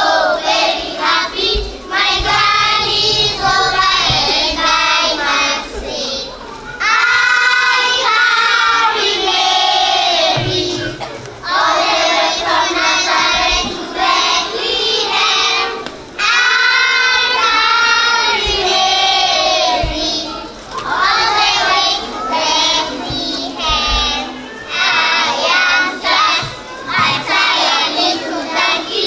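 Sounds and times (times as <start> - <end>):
young children singing: 0.0 - 29.0.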